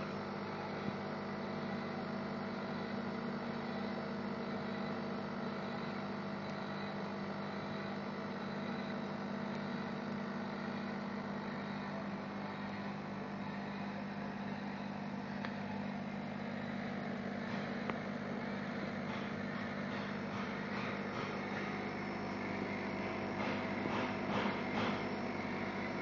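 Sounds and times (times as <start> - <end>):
welding machine humming: 0.0 - 26.0.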